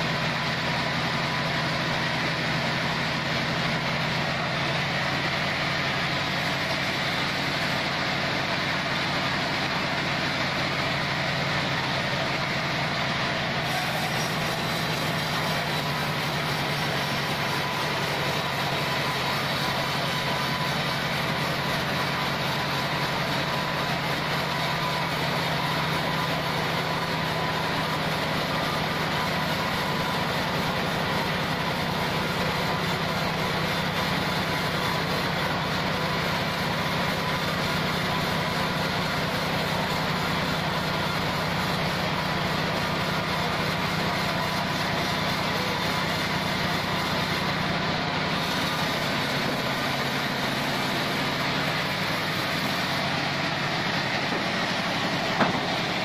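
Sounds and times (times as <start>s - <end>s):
band sawmill machine hum: 0.0s - 56.0s.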